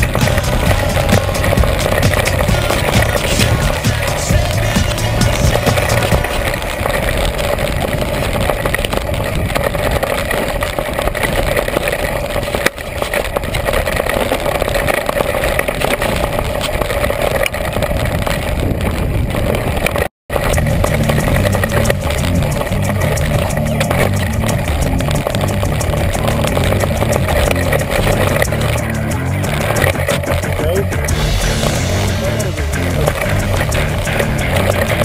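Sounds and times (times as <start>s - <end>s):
mountain bike rattling on rocks: 0.0s - 31.1s.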